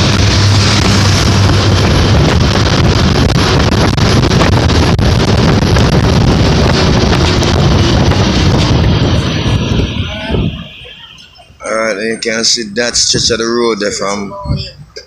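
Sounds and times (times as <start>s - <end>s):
wind buffeting microphone: 0.0s - 11.6s, 12.2s - 15.0s
bus engine and tyres rumbling: 0.0s - 15.0s.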